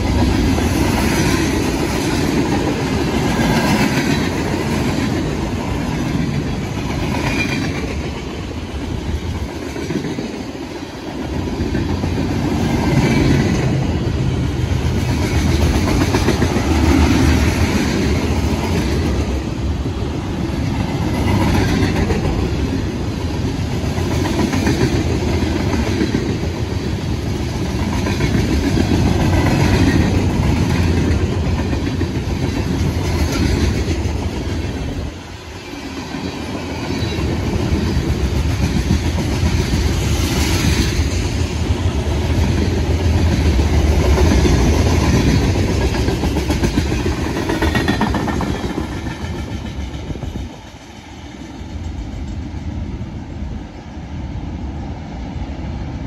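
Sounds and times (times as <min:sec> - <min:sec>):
freight train cars rumbling past: 0:00.0 - 0:56.0.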